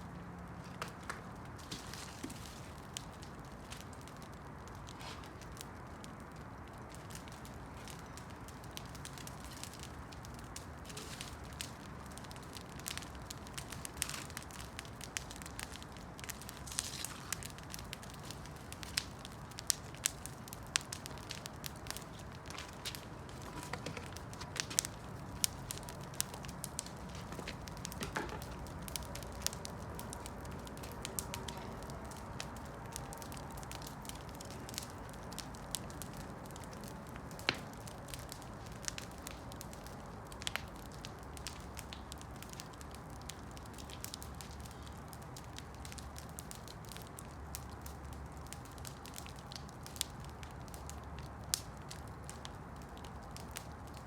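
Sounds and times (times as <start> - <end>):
wood crackling and popping: 0.0 - 54.0
campfire flames rushing: 0.1 - 54.0.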